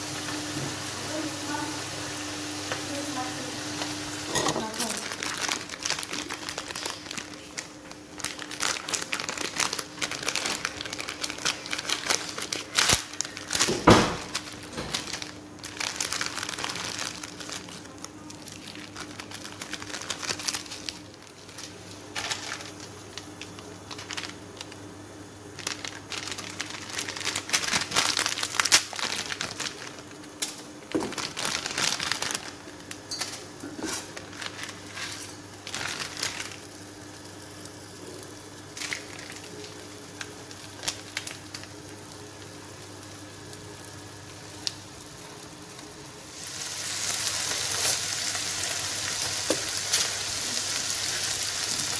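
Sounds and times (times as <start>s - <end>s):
plastic packet crinkling: 4.3s - 37.5s, 38.2s - 42.2s, 46.4s - 51.9s.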